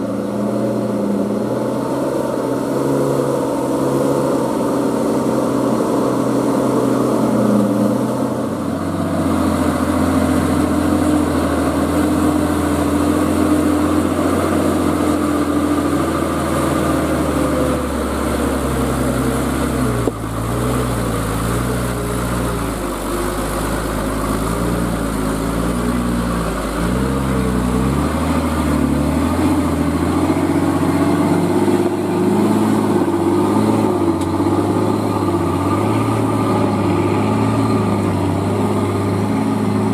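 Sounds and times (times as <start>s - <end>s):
heavy truck engine under load: 0.0s - 39.9s.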